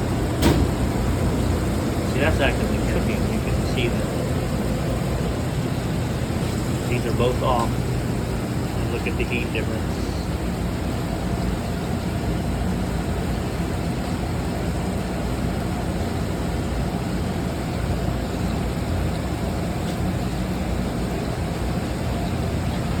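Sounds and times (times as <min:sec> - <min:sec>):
kitchen equipment and ventilation roar: 0:00.0 - 0:23.0.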